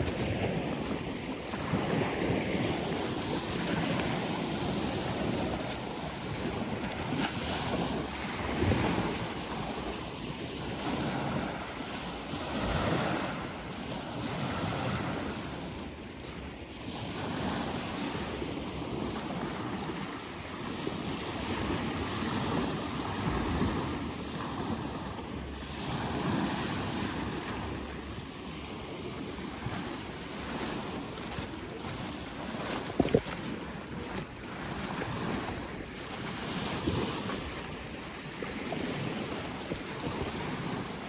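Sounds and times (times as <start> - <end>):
rushing wind and water: 0.0 - 41.0
wind buffeting microphone: 0.0 - 41.0.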